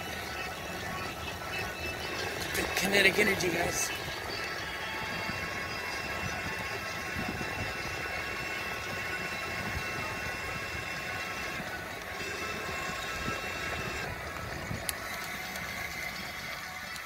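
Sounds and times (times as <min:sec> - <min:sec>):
small wheels rolling on asphalt: 0:00.0 - 0:17.0.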